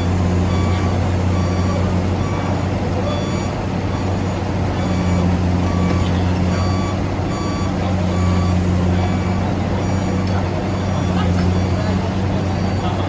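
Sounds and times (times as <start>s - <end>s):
diesel engine droning: 0.0s - 13.0s
reversing alarm beeping: 0.0s - 13.0s.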